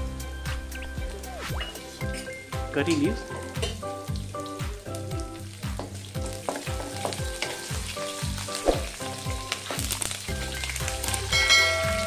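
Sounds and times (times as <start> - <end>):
background music with a beat: 0.0 - 12.0
spices sizzling in hot oil: 0.0 - 12.0.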